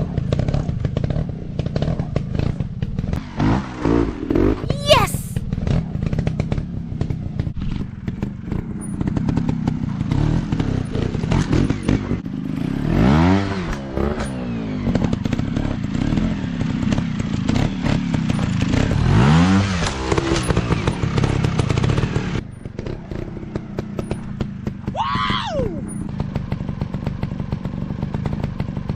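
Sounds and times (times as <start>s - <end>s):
motorcycle engine revving: 0.0s - 4.6s, 5.5s - 25.0s, 25.7s - 28.9s.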